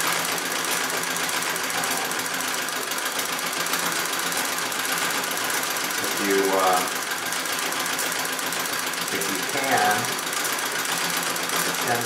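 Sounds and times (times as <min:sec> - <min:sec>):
treadle sewing machine running: 0:00.0 - 0:12.0.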